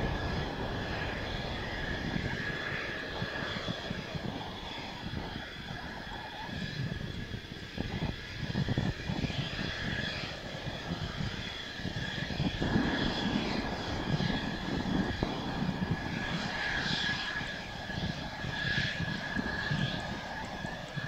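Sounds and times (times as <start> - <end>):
jet engine whine: 0.0 - 21.0
wind buffeting microphone: 0.0 - 21.0.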